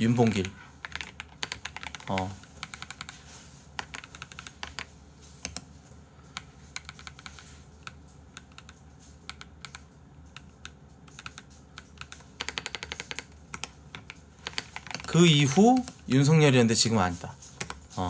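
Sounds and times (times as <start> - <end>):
computer keyboard typing: 0.0 - 5.7, 6.3 - 16.0, 17.5 - 17.9.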